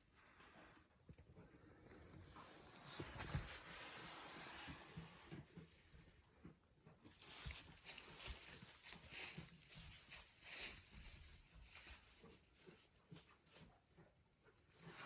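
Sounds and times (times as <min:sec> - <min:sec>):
goats shuffling and rustling: 0:00.0 - 0:15.0.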